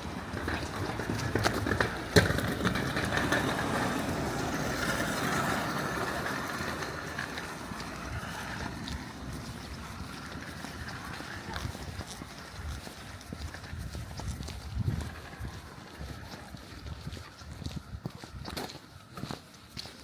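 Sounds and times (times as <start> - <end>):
vehicle passing: 0.0 - 17.4.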